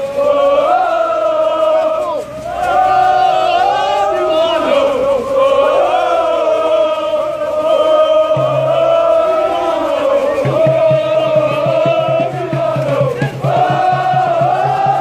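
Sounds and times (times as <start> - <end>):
crowd chanting a song: 0.0 - 15.0
quick low beat: 0.0 - 15.0.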